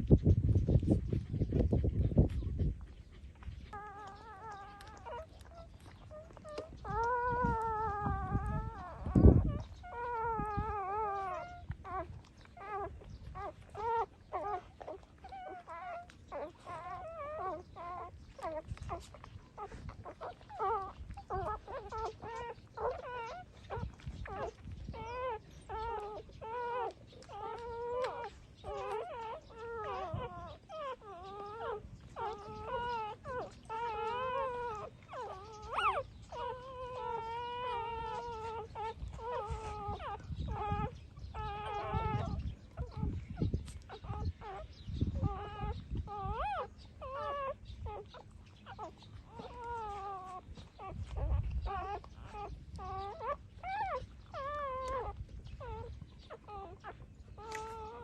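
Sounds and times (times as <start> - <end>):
puppies crying: 0.0 - 58.0.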